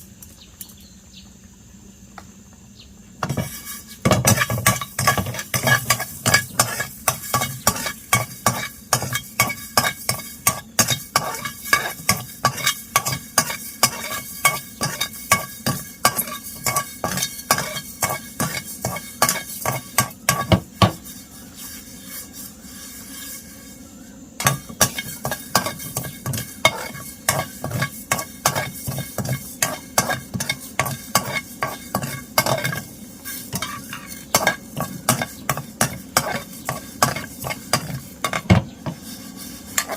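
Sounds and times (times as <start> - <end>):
food frying: 3.2 - 23.7, 24.4 - 39.9
utensil scraping in a pan: 3.2 - 39.9.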